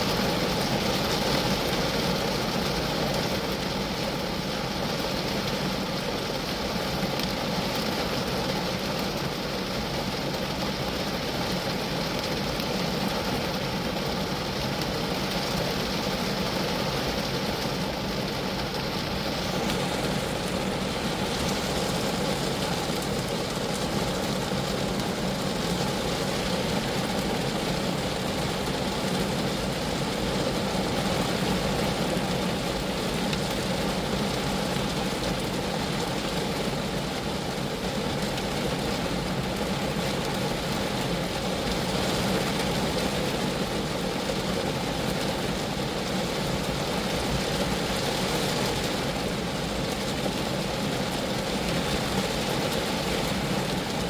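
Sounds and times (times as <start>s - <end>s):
rain pattering on a car: 0.0s - 54.0s.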